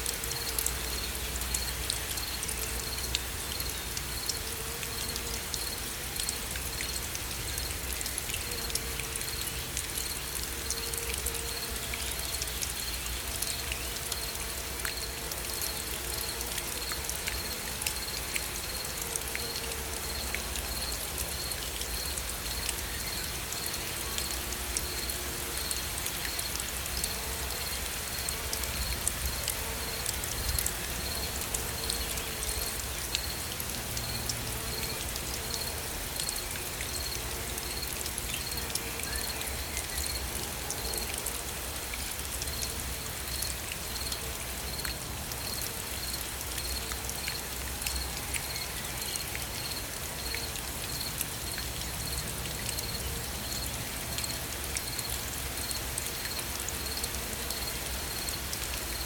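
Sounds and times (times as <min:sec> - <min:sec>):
gentle rain pattering: 0:00.0 - 0:59.0.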